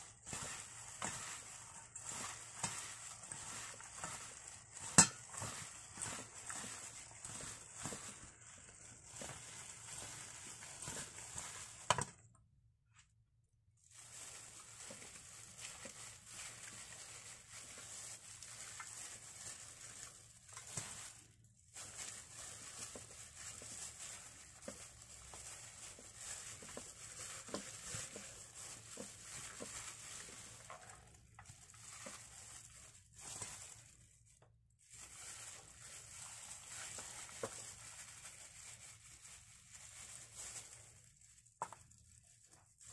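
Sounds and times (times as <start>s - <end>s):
gloved hands crinkling and squishing: 0.0s - 42.9s.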